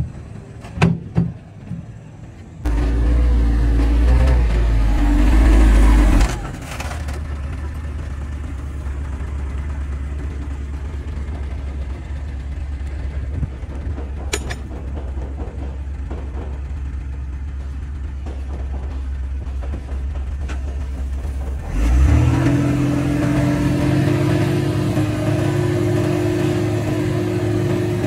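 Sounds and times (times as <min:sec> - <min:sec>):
heavy diesel engine revving: 0:02.6 - 0:28.0.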